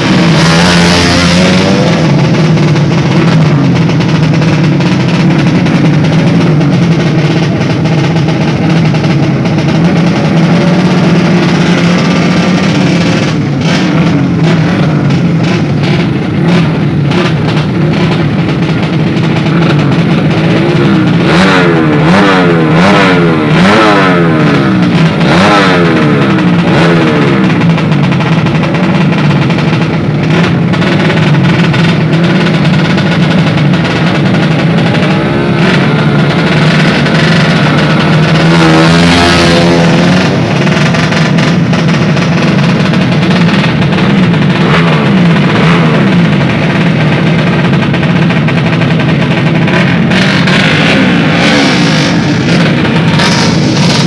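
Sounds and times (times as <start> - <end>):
motorcycle engine idling: 0.0 - 54.0
motorcycle engine revving: 0.0 - 54.0.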